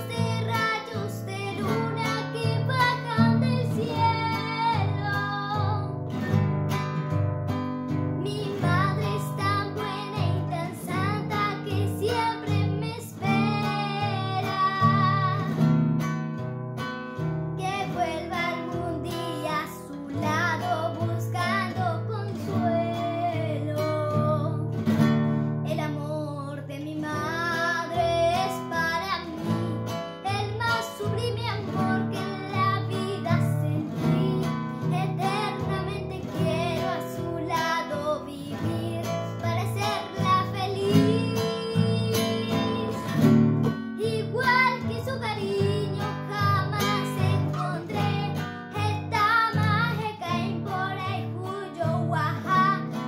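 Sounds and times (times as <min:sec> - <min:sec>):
girl singing: 0:00.0 - 0:06.4, 0:07.9 - 0:15.9, 0:17.5 - 0:53.0
acoustic guitar: 0:00.0 - 0:53.0.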